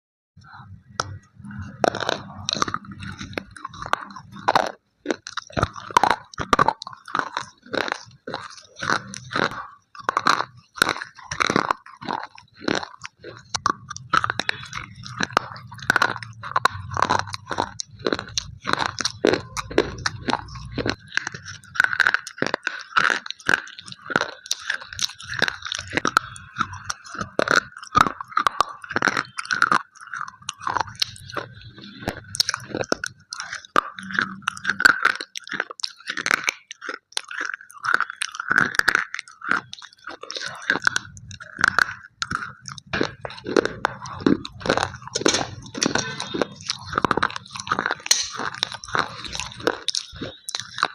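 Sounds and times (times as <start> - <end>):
pencils being chewed crunching: 0.4 - 50.9.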